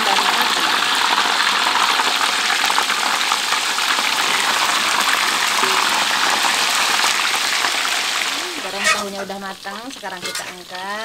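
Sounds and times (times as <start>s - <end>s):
deep-frying sizzle in hot oil: 0.0s - 11.0s.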